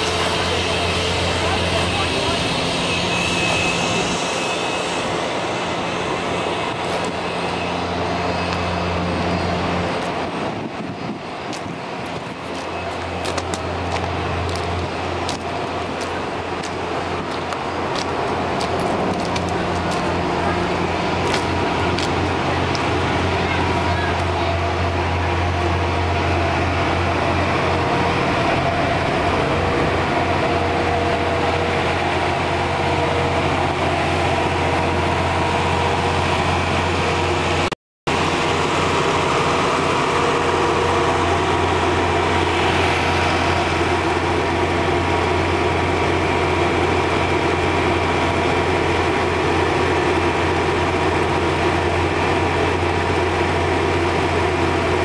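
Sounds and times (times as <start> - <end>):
train machinery humming: 0.0 - 55.0.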